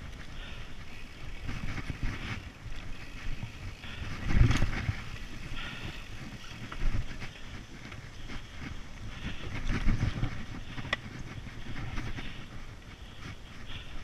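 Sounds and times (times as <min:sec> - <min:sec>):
bike rattling over rough ground: 0:00.0 - 0:14.0
bike tyres rumbling on dirt: 0:00.0 - 0:14.0
wind on microphone: 0:00.9 - 0:14.0.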